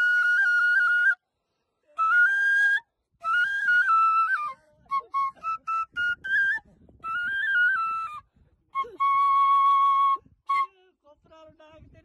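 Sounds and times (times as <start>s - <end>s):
side-blown flute playing: 0.0s - 1.2s, 2.0s - 10.8s.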